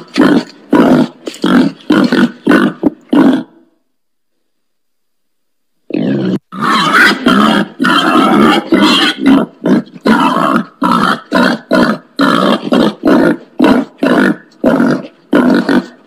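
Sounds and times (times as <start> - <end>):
pig grunting: 0.0 - 3.6, 5.9 - 16.0.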